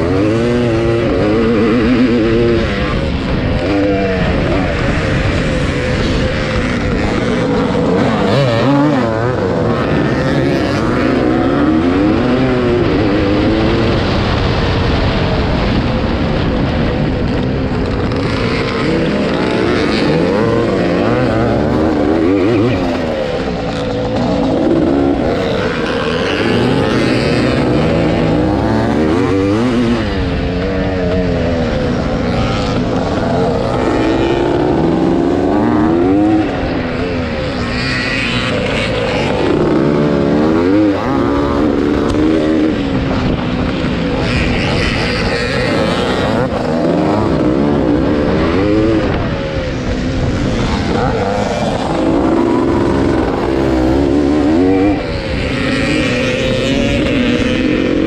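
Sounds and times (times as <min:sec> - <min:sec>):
motocross engine revving: 0:00.0 - 0:58.0
other motocross bikes: 0:00.0 - 0:58.0.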